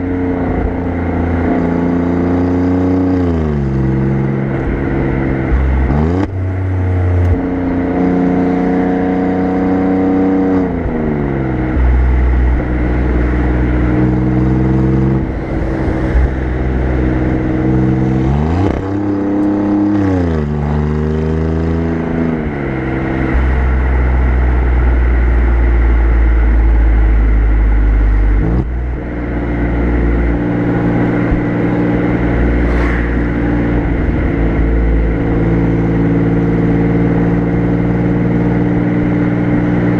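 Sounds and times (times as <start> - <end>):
car exhaust while driving: 0.0 - 39.9.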